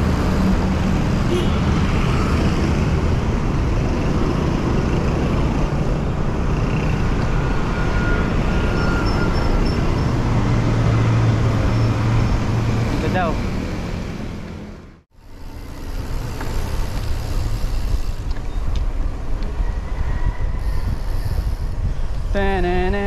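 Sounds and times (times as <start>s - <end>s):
road traffic noise: 0.0s - 23.0s
vehicle engine hum: 0.0s - 23.0s.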